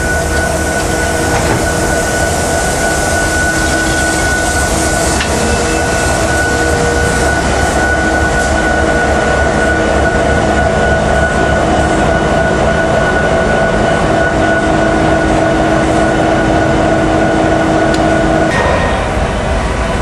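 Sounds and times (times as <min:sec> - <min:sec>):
constant whining tones: 0:00.0 - 0:20.0
diesel locomotive engine rumble: 0:00.0 - 0:20.0.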